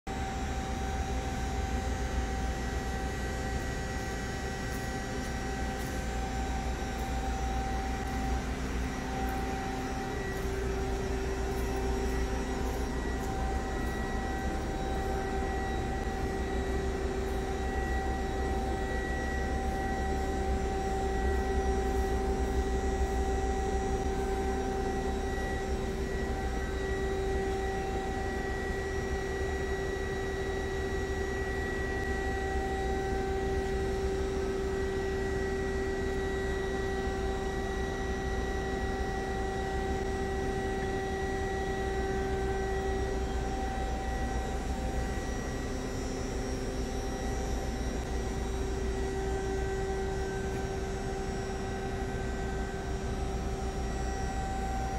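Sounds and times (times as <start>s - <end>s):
lathe humming idle: 0.1s - 54.9s.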